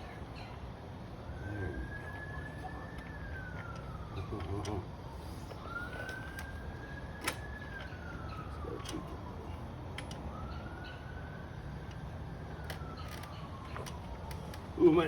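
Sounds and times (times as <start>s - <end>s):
siren wailing: 0.8s - 15.0s.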